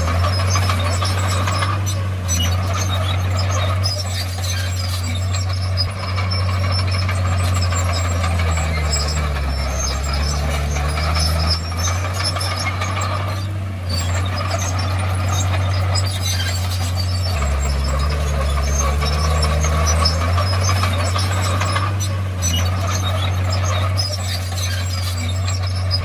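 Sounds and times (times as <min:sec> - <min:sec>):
heavy diesel engine under load: 0:00.0 - 0:26.0.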